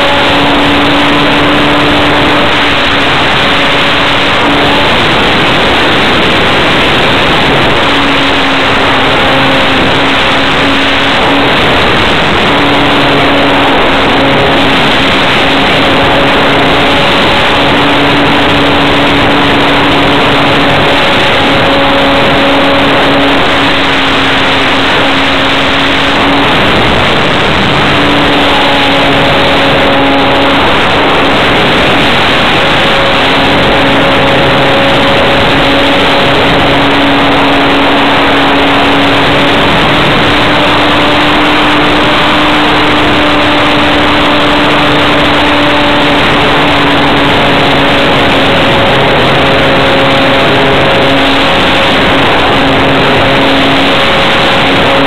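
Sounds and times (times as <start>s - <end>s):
model plane electric motor: 0.0s - 48.8s
wind rush: 0.0s - 55.0s.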